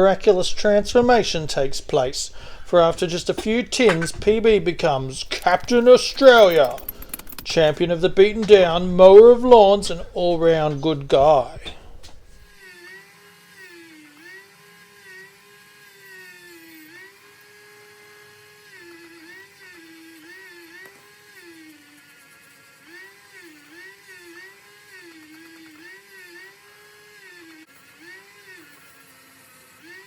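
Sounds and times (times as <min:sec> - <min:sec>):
small motor whirring: 0:02.5 - 0:09.7, 0:11.3 - 0:30.0.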